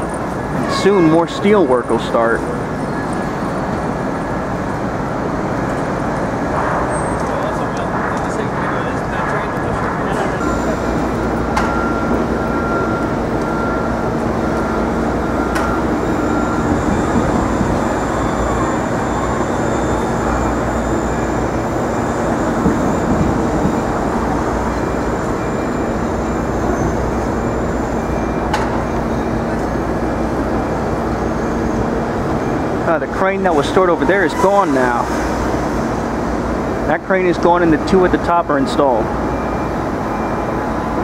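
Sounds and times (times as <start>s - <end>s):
city traffic: 0.0s - 41.0s
machinery hum: 0.0s - 41.0s.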